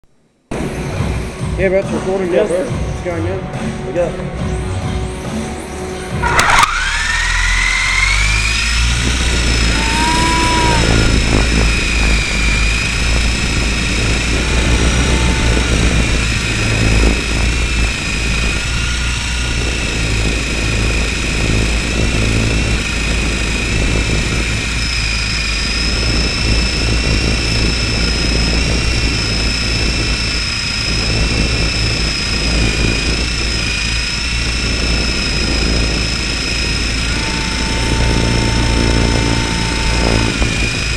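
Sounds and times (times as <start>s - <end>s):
helicopter rotor drone: 0.4s - 40.9s
model helicopter motor whine: 6.1s - 40.9s.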